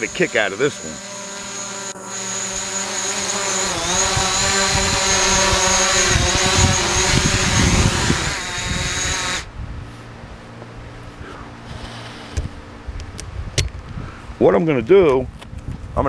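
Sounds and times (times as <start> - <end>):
drone propellers buzzing: 0.0 - 14.4.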